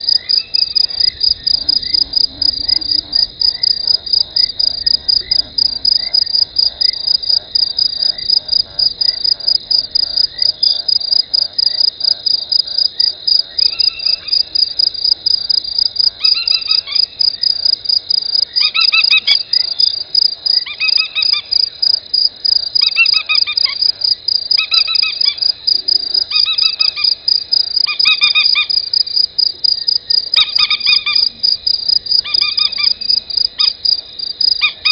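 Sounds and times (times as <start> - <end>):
quieter chirp: 0.0 - 11.9, 12.5 - 34.9
insect chirping fast pulse: 0.0 - 34.9.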